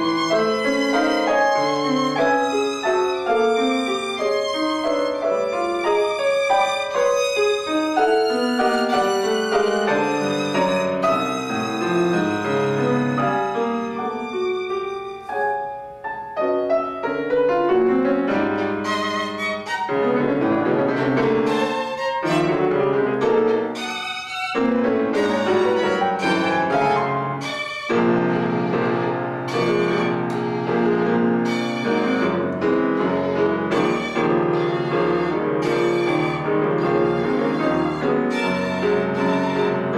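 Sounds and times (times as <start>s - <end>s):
piano accompaniment: 0.0s - 39.9s
violin: 0.0s - 39.9s.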